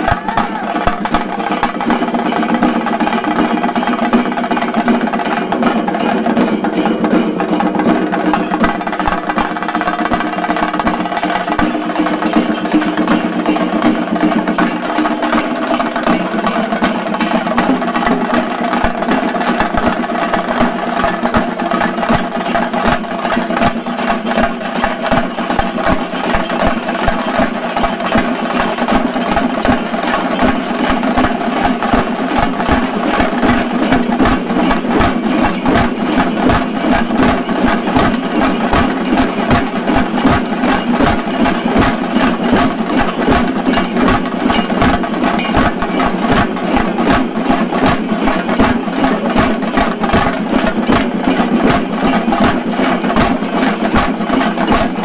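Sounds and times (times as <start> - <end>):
fast drum rolls: 0.0 - 55.0.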